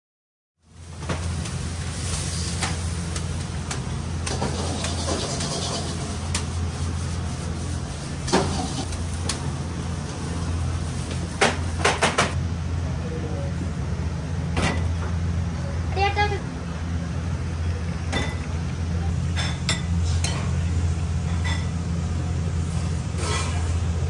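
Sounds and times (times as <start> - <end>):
low machine hum: 0.6 - 24.0.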